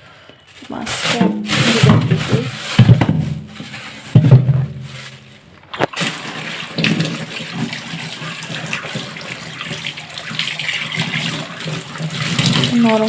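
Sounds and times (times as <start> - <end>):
tap water pouring: 1.0 - 13.0.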